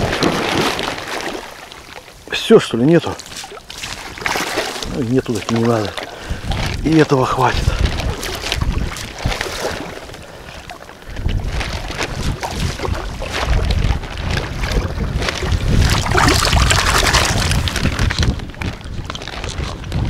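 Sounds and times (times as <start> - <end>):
wind buffeting microphone: 0.0 - 1.1, 3.8 - 20.0
water sloshing and splashing: 0.0 - 20.0.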